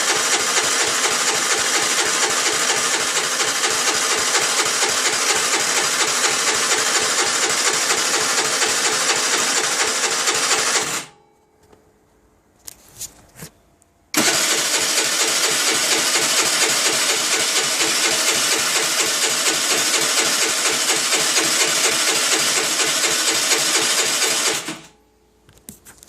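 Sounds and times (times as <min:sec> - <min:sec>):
scooter engine running: 0:00.0 - 0:11.0, 0:14.2 - 0:24.7.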